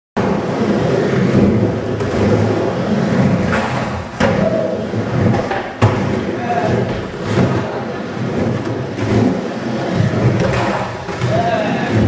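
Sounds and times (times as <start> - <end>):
skateboard clacks: 0.2 - 12.0
skateboard wheels rolling on concrete: 0.2 - 12.0.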